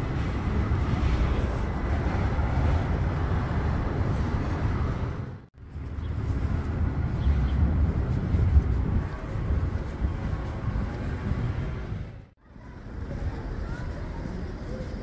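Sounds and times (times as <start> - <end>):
town street rumble: 0.0 - 15.0.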